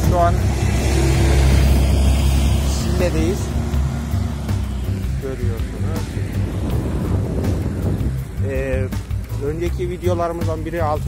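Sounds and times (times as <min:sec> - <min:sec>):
background music: 0:00.0 - 0:11.0
wind buffeting microphone: 0:00.0 - 0:11.0.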